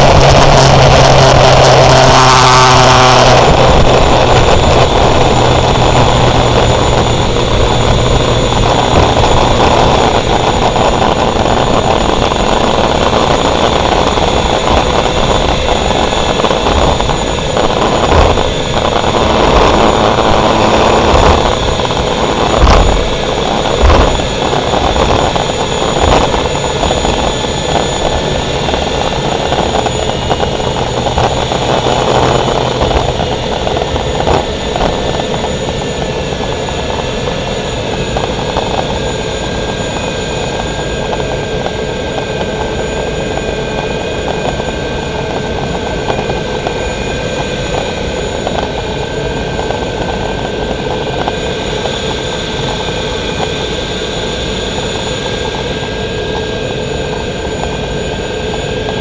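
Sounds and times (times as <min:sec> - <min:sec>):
gas turbine engine whining: 0:00.0 - 0:59.0.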